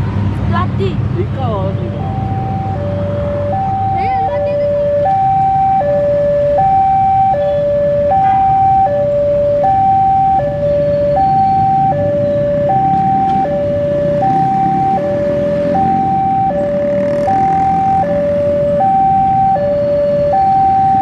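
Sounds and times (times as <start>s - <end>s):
level crossing alarm tones: 1.9s - 21.0s.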